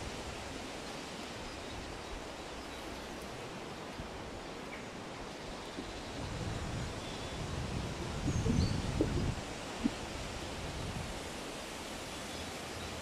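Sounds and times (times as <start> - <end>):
wind rustling leaves and grass: 0.0 - 13.0.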